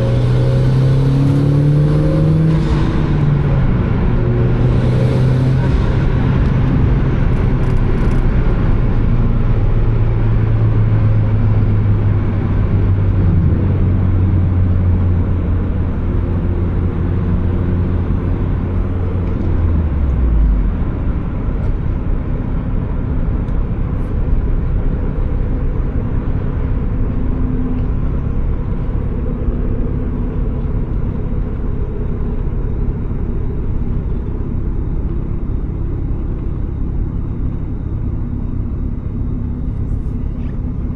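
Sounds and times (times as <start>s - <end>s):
car engine drone: 0.0s - 40.9s
road noise: 0.0s - 40.9s.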